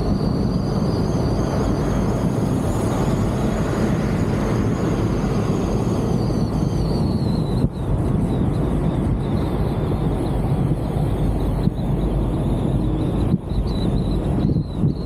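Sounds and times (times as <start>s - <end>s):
faint high whine: 0.0s - 15.0s
road rumble: 0.0s - 15.0s
wind: 0.0s - 15.0s.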